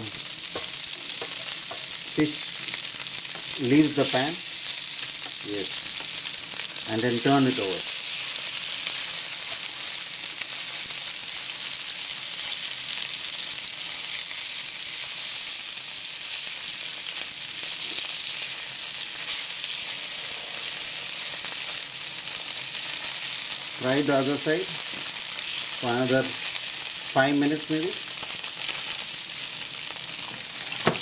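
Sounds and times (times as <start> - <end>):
fish sizzling in hot oil: 0.0 - 31.0.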